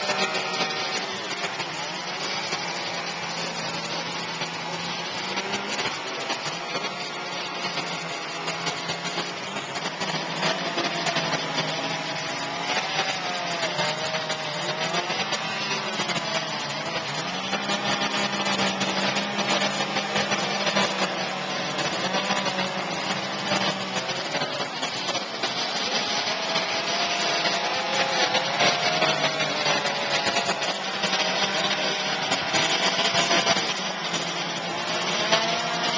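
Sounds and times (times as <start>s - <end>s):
chainsaws revving cutting wood: 0.0s - 35.9s.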